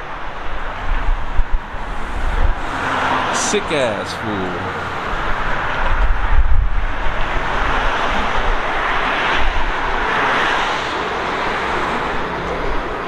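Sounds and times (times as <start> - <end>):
street traffic hiss: 0.0 - 13.0
wind buffeting microphone: 0.2 - 3.4, 4.8 - 13.0.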